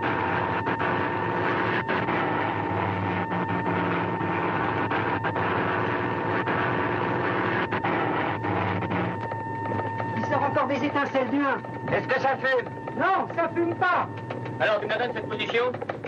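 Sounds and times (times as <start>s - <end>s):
film soundtrack crackles: 0.0s - 16.0s
high whine: 0.0s - 16.0s
propeller plane droning: 0.0s - 16.0s.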